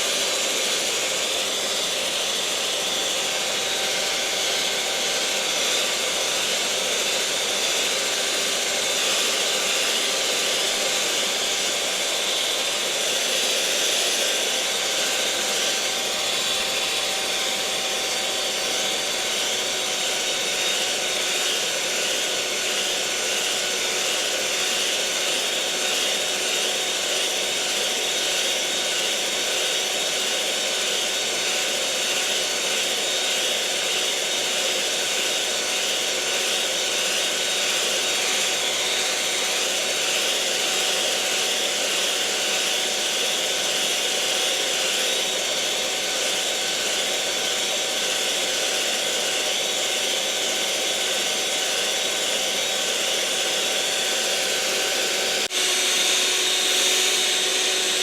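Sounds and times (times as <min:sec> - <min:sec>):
electric kitchen mixer whirring: 0:00.0 - 0:58.0.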